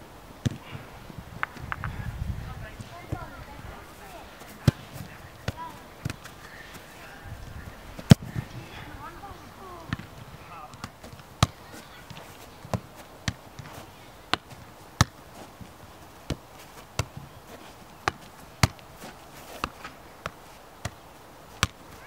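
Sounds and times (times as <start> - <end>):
soccer ball kicked thuds: 0.4 - 0.8, 2.7 - 6.8, 8.0 - 8.9, 9.8 - 22.0.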